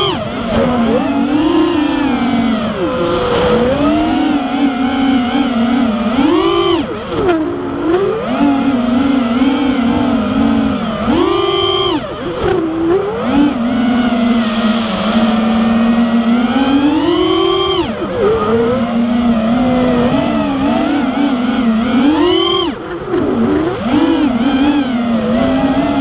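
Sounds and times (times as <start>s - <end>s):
racing drone motors whining: 0.0s - 26.0s.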